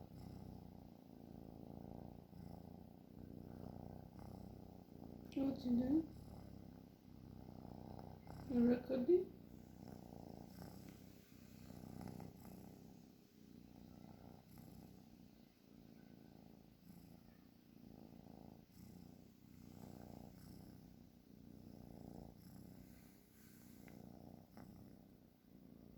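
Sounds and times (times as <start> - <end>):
cat snoring softly: 0.0 - 25.9.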